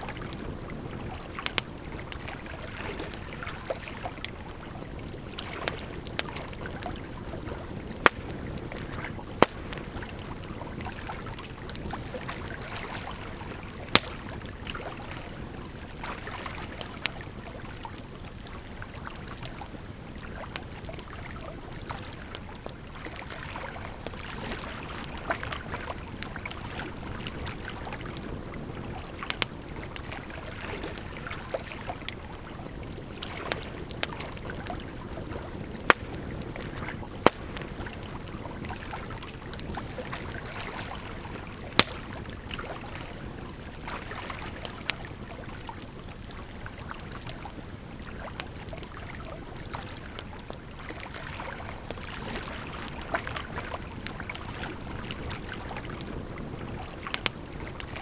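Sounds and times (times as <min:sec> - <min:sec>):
flowing water: 0:00.0 - 0:58.0
wood fire crackling and popping: 0:00.1 - 0:23.2, 0:23.8 - 0:50.8, 0:51.7 - 0:58.0.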